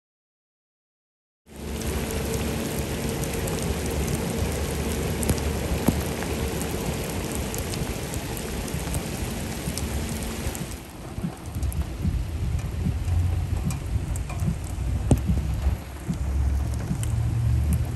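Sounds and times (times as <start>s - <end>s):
heavy rain pouring: 1.5s - 17.9s.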